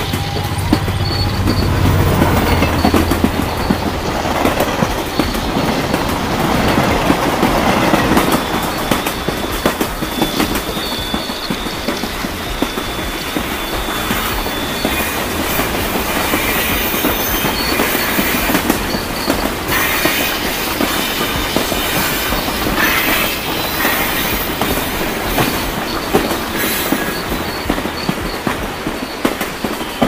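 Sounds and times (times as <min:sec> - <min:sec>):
toy train rattling on track: 0:00.0 - 0:30.0.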